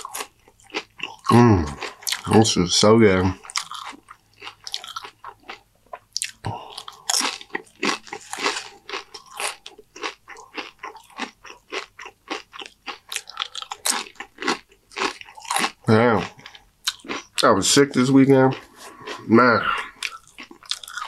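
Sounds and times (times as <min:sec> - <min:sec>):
crunching and chewing chips: 0:00.0 - 0:21.0.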